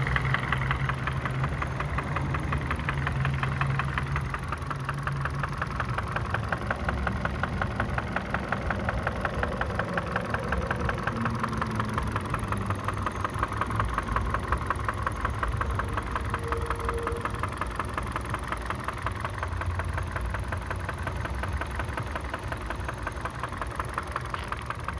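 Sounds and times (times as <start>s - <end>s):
car engine running: 0.0s - 24.9s
fast regular engine knock: 0.0s - 24.9s.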